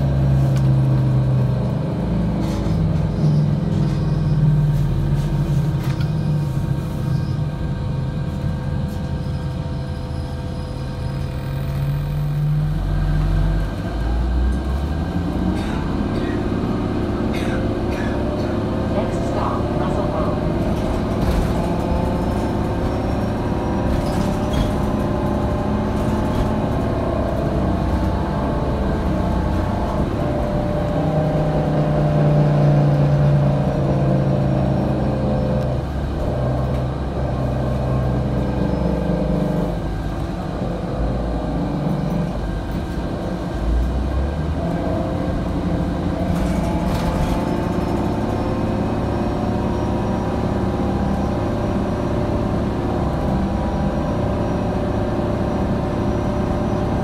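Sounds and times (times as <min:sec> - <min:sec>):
bus drive tones: 0:00.0 - 0:57.0.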